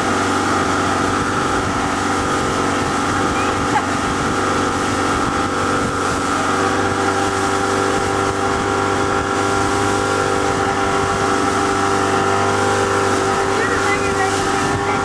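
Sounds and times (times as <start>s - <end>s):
motorboat engine running: 0.0s - 15.0s
rushing water and wake: 0.0s - 15.0s.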